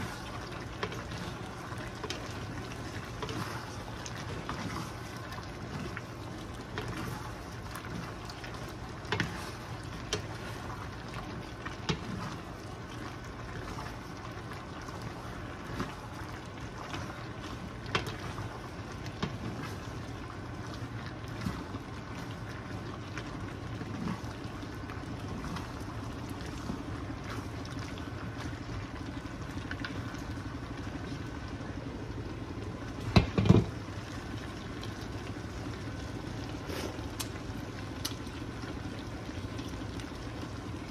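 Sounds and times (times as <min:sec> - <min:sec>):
steady hum and hiss: 0:00.0 - 0:40.9.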